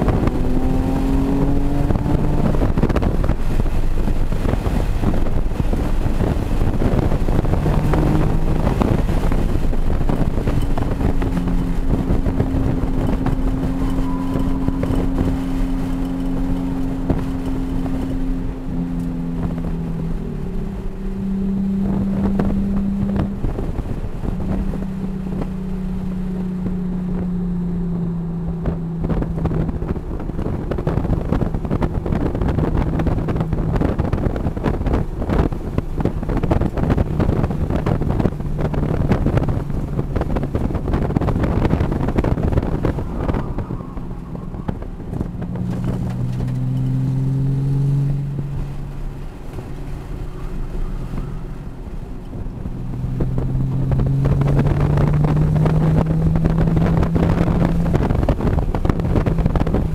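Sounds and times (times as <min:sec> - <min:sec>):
car engine running hard: 0:00.0 - 0:59.9
wind buffeting microphone: 0:00.0 - 0:59.9.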